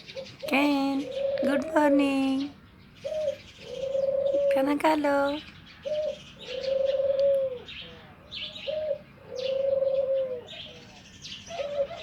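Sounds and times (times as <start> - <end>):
doves cooing: 0.0 - 12.0
small birds chirping: 0.0 - 12.0.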